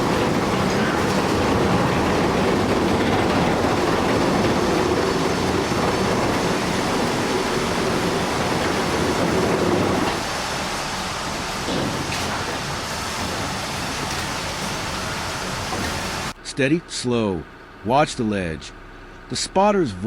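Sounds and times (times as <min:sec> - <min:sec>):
heavy machinery rumble and clatter: 0:00.0 - 0:16.4.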